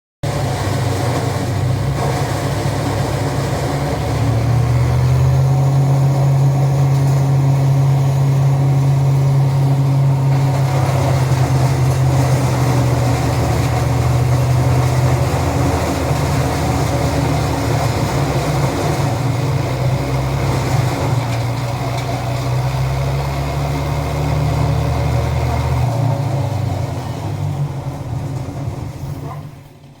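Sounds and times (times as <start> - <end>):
branch shredder humming: 0.2 - 29.2.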